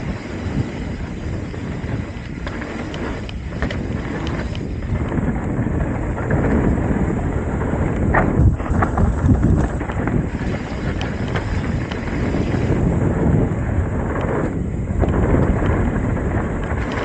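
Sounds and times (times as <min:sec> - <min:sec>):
bike clicks and rattles: 0:00.0 - 0:17.0
bike tyre rumble on dirt: 0:00.0 - 0:17.0
wind buffeting microphone: 0:00.0 - 0:17.0.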